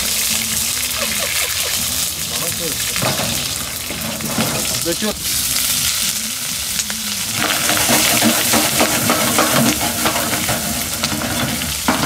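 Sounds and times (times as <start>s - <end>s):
peppers sizzling in a pan: 0.0s - 12.0s.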